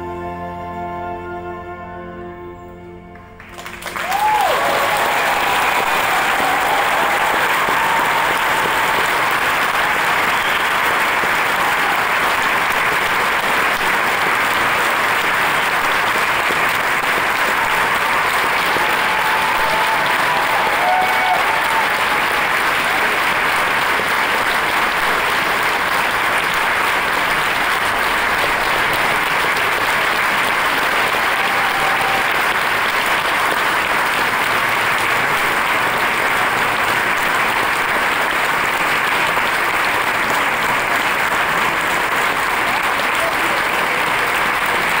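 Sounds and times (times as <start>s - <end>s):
audience applauding: 3.1s - 45.0s.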